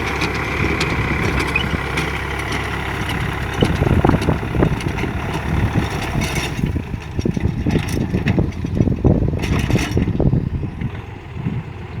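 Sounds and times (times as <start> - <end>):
short metallic rattles: 0.0 - 10.4
tractor diesel engine chugging: 0.0 - 12.0.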